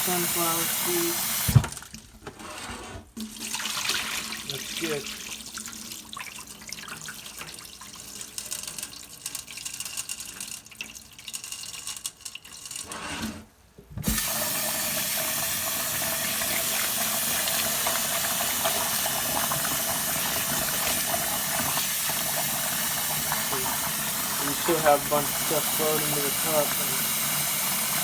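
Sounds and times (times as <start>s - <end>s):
tap water running: 0.0s - 2.2s, 3.2s - 12.9s, 14.0s - 28.0s.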